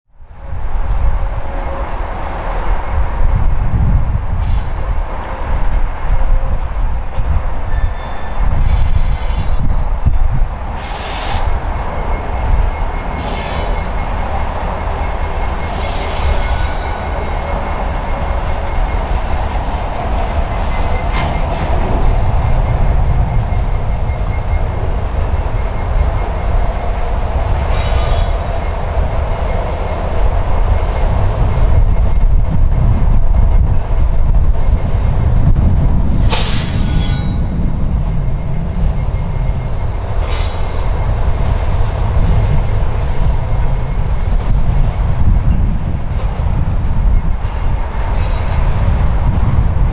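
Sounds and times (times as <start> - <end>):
freight train rumbling over bridge: 0.0 - 49.9.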